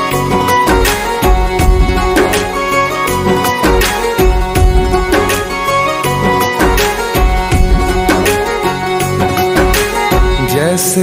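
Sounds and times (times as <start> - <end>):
devotional song instrumental melody: 0.0 - 11.0
heavy bass: 0.2 - 10.5.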